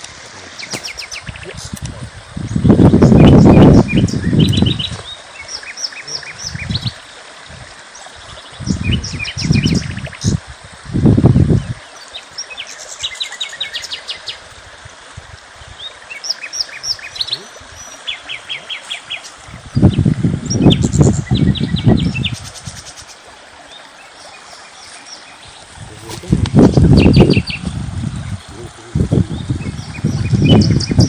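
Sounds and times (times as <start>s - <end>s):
small birds chirping: 0.4s - 7.2s, 7.9s - 10.4s, 11.3s - 14.4s, 15.6s - 31.0s.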